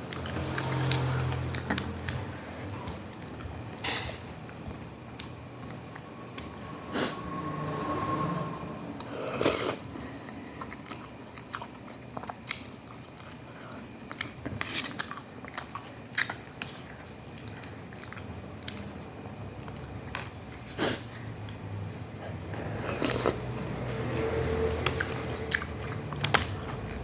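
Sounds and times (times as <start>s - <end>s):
chewing and mouth sounds: 0.0s - 7.2s, 9.0s - 27.0s.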